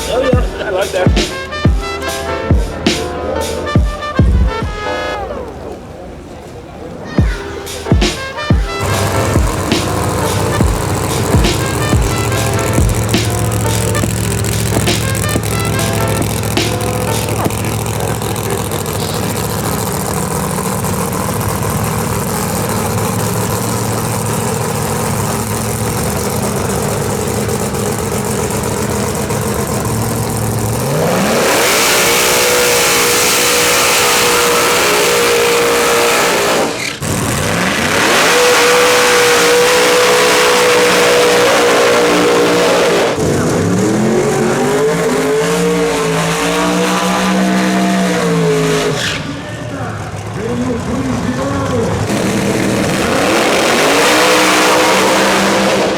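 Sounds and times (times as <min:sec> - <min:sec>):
drag car engine revving: 0:00.0 - 0:04.6, 0:05.2 - 0:55.9.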